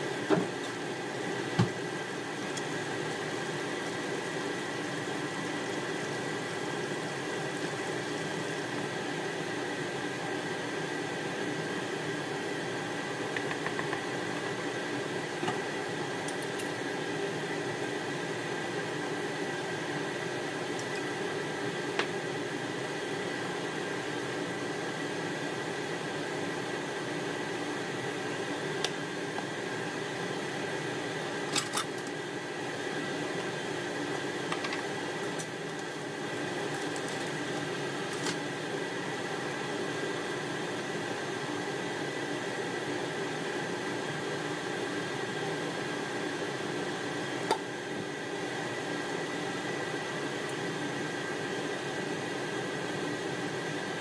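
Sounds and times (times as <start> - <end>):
fan hum with thin whine: 0.0 - 54.0
sizzling in a frying pan: 0.0 - 54.0.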